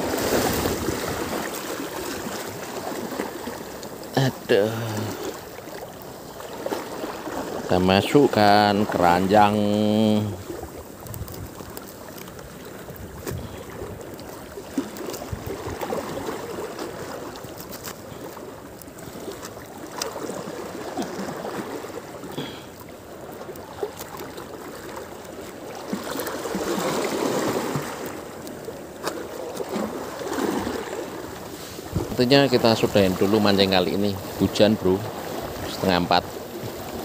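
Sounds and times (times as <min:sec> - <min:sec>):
water sloshing and splashing: 0:00.0 - 0:37.0.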